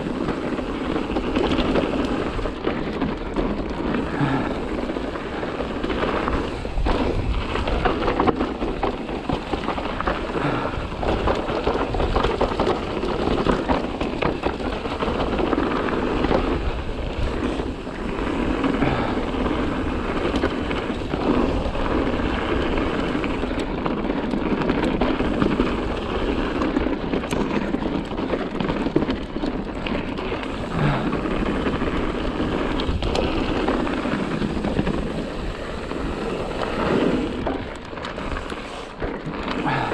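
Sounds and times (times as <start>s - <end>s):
bike knocking and rattling: 0.0s - 39.9s
bike tyres rushing over dirt: 0.0s - 39.9s.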